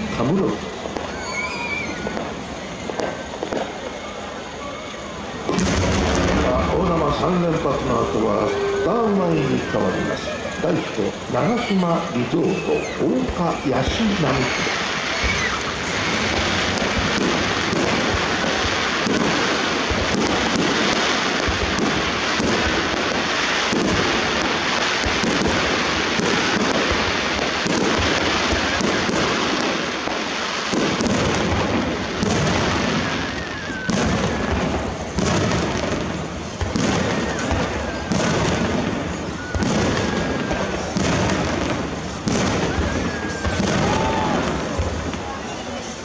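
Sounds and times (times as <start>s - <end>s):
fireworks booming and crackling: 0.0s - 46.0s
sharp firework reports: 0.0s - 46.0s.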